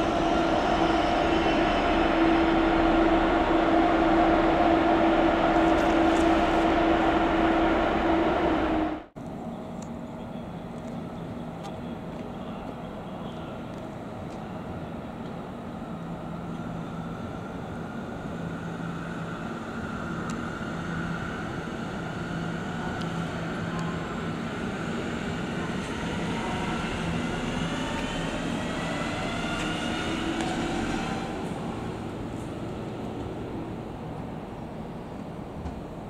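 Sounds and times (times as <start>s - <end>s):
electric train traction whine: 0.0s - 9.2s, 13.7s - 35.3s.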